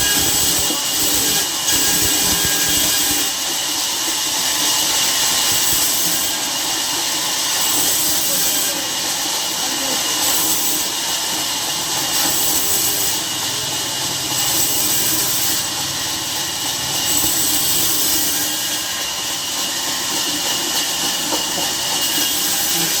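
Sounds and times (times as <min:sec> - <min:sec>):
harsh high rasp: 0:00.0 - 0:03.4, 0:07.5 - 0:23.0.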